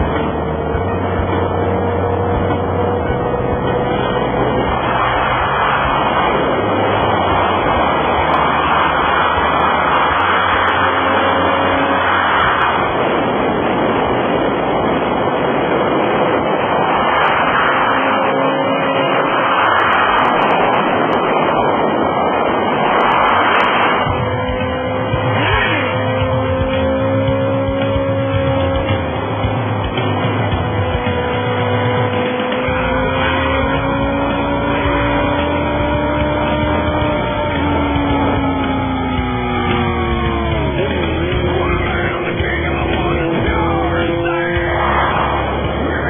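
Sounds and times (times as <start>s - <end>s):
motorcycle engines: 0.0s - 46.0s
wind rushing over microphone: 0.0s - 46.0s.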